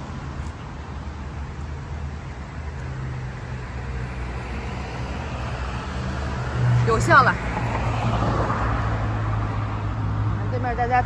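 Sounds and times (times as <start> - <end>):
passing cars and scooters rumble: 0.0 - 11.0.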